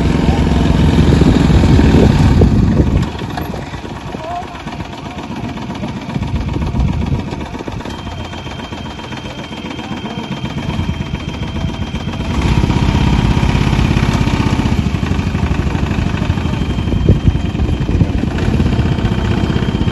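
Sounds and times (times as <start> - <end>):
quad bike engine running: 0.0 - 19.9.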